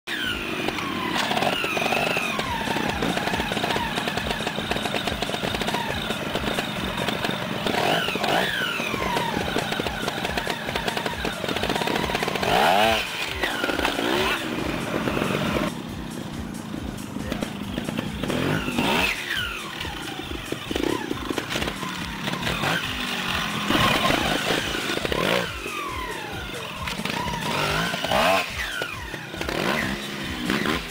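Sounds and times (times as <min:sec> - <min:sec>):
motorcycle engine revving: 0:00.1 - 0:30.9.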